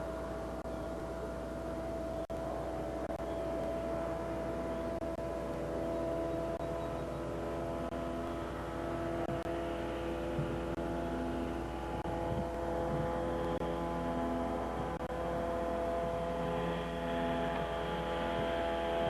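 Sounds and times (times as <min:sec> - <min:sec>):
light aircraft engine droning: 0:00.0 - 0:19.0
low hum: 0:00.0 - 0:19.0.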